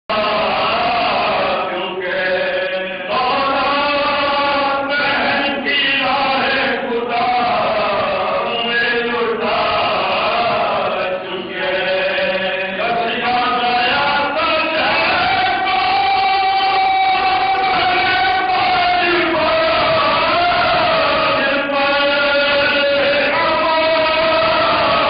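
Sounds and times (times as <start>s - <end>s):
men chanting without instruments: 0.1s - 25.0s.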